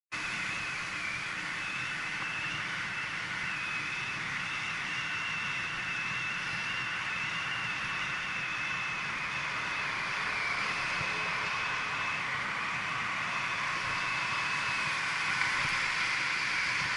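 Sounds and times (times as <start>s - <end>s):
thin steady whine: 0.1s - 16.9s
wind and tyre rushing noise: 0.2s - 16.9s.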